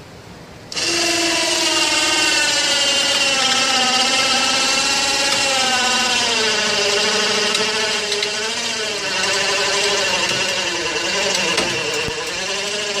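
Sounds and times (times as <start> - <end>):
winch motor whining: 0.7 - 13.0.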